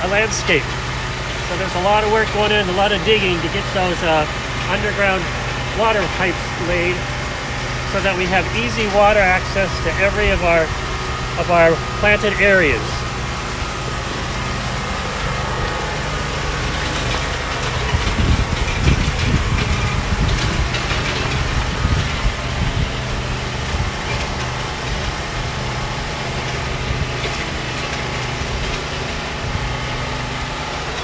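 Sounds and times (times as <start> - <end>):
trenching machine engine: 0.0 - 31.0.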